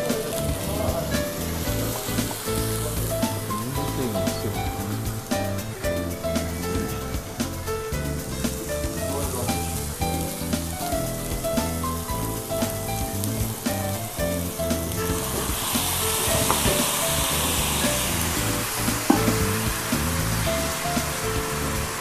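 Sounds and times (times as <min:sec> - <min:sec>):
background music with beat: 0:00.0 - 0:22.0
steak sizzling on hot plate: 0:00.0 - 0:22.0.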